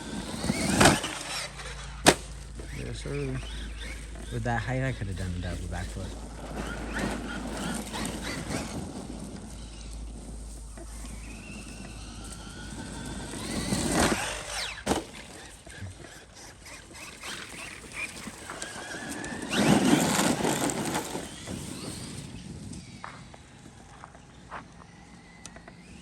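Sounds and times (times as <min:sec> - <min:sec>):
electric motor whining: 0:00.0 - 0:26.0
tyres churning dirt: 0:00.0 - 0:26.0.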